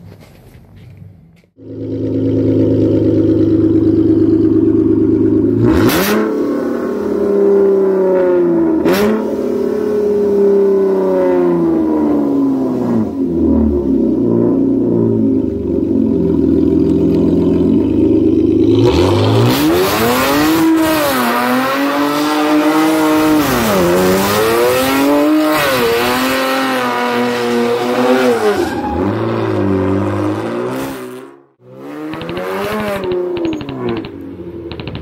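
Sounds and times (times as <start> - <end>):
car engine revving: 1.6 - 35.0.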